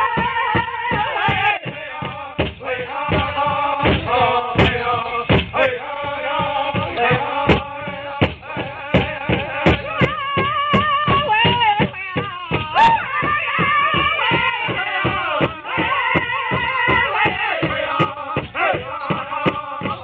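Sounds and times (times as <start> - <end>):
steady drumbeat: 0.0 - 20.0.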